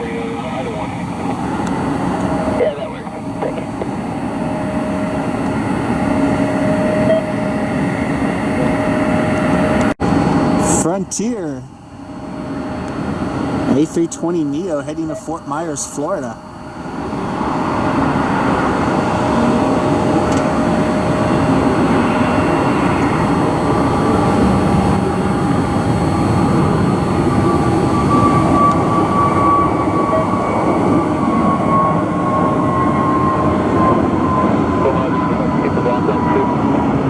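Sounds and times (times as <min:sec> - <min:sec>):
jet engines rumbling and whining: 0:00.0 - 0:37.0.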